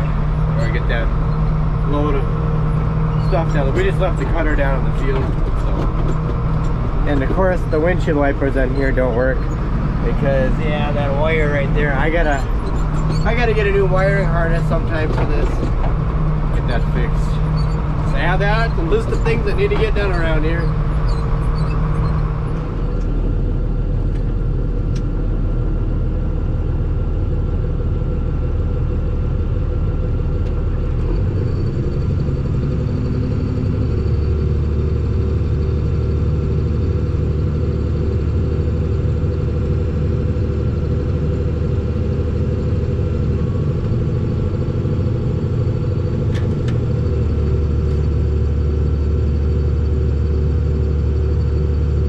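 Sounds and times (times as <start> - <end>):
farm vehicle engine running: 0.0 - 52.0.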